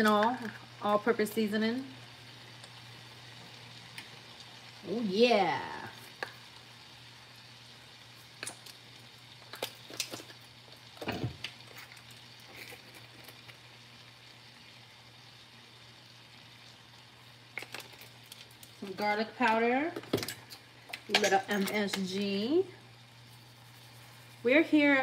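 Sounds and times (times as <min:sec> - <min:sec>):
beef frying in a pan: 0:00.0 - 0:25.0.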